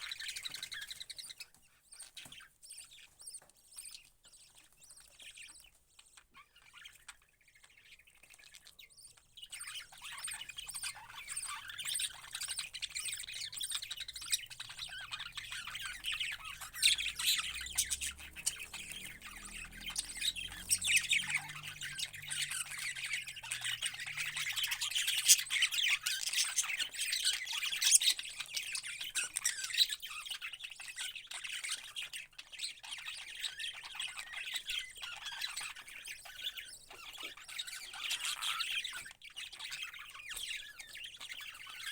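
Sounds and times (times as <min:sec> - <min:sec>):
parrots squawking and chattering: 0:00.0 - 0:41.9.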